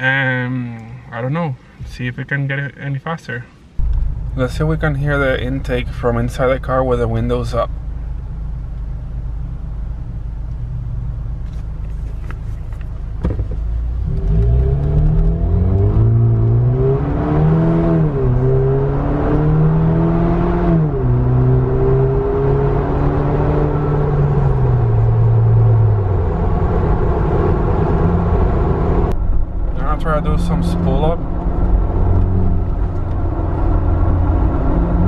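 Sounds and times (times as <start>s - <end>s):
car engine accelerating: 3.8s - 35.0s.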